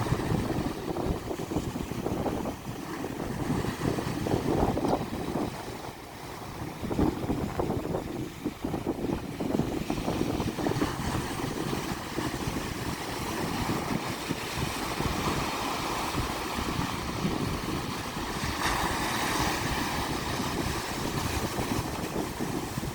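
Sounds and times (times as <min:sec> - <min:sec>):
waves washing onto shore: 0:00.0 - 0:22.9
wind on microphone: 0:00.0 - 0:22.9.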